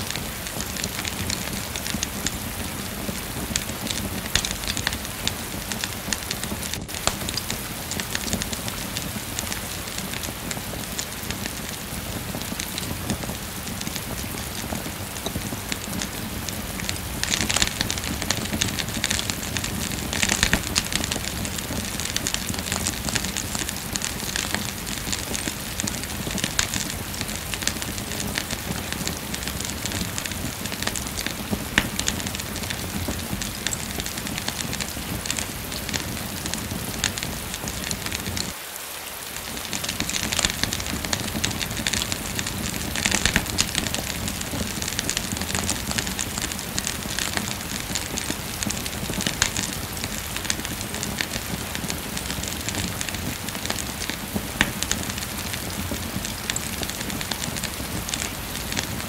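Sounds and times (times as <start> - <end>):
steady rain falling: 0.0 - 59.0
wood fire crackling: 0.0 - 59.0.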